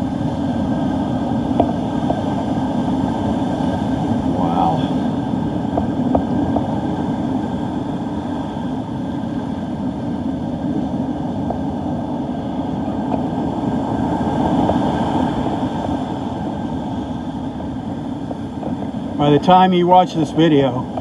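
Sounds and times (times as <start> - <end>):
wind blowing across microphone: 0.0 - 21.0.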